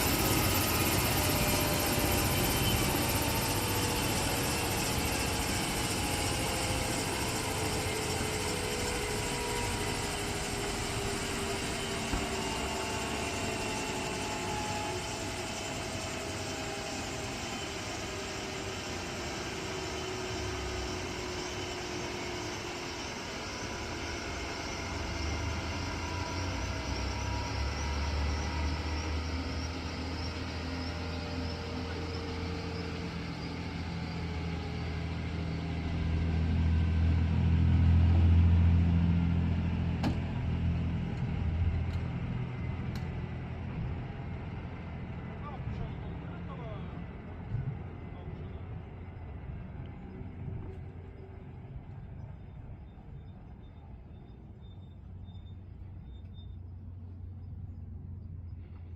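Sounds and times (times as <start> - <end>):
helicopter turbine engines whining: 0.0 - 58.9.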